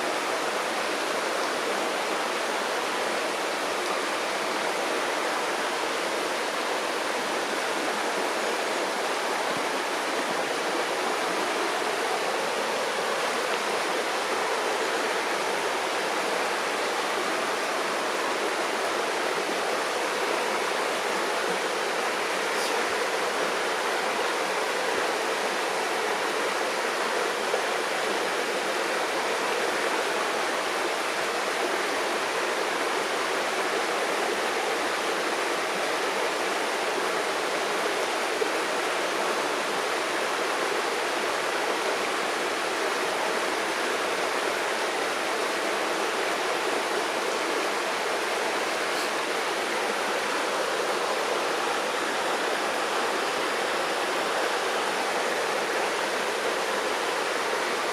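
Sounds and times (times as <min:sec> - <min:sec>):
river water flowing: 0:00.0 - 0:57.9.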